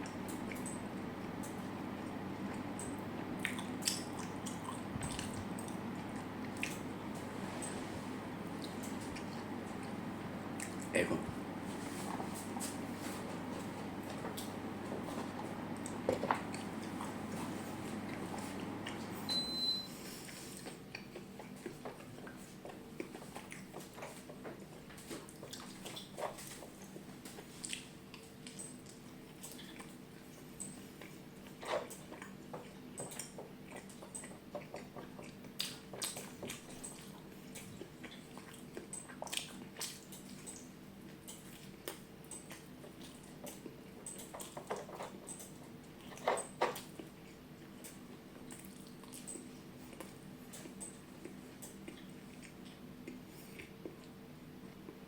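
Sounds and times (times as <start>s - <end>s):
faint steady hum: 0.0s - 55.0s
person chewing: 2.0s - 6.9s, 8.6s - 10.0s, 10.6s - 11.0s, 14.0s - 19.1s, 20.3s - 54.2s.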